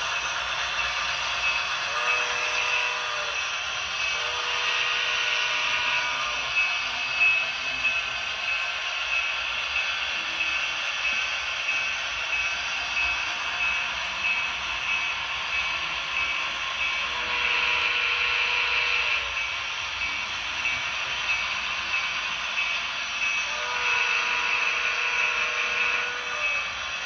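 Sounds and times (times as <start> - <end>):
model train whirring: 0.0 - 27.0.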